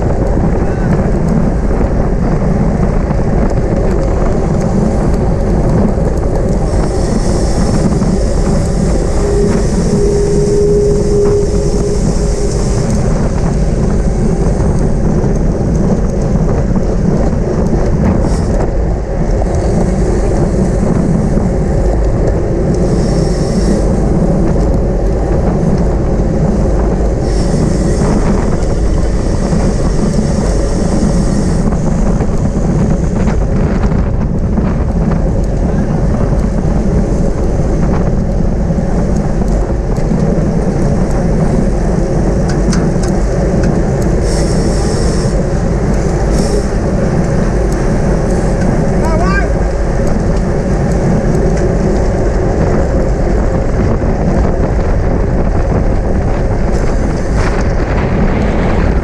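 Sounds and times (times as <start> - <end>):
bicycle tyre and road noise: 0.0 - 59.0
wind rumble on microphone: 0.0 - 59.0.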